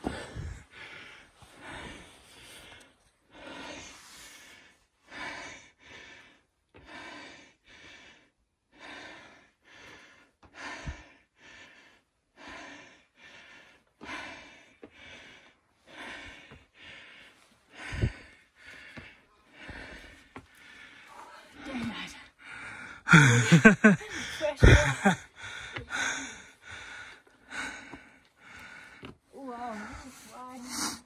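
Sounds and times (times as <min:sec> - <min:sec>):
person panting heavily: 0:00.0 - 0:31.0.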